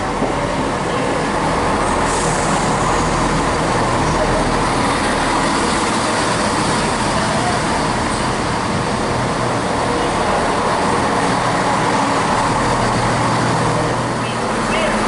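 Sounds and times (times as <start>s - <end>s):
diesel train engines humming: 0.0s - 15.0s.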